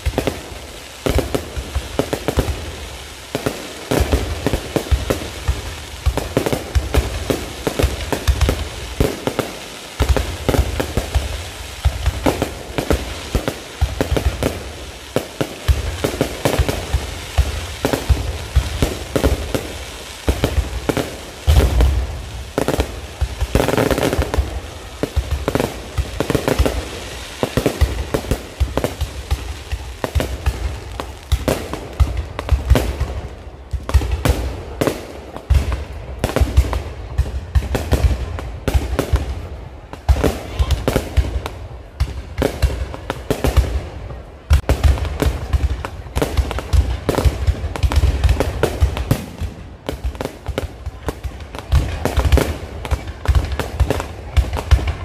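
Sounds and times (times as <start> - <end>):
deep fireworks booms: 0.0 - 55.0
fireworks bangs and crackling: 0.0 - 55.0.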